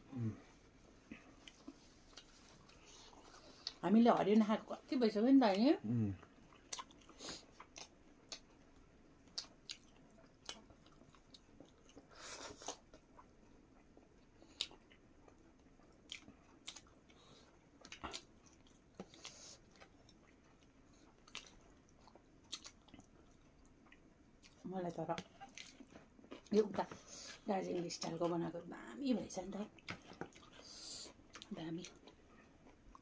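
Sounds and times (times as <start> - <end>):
people chewing food: 0.0 - 4.6, 5.4 - 33.0.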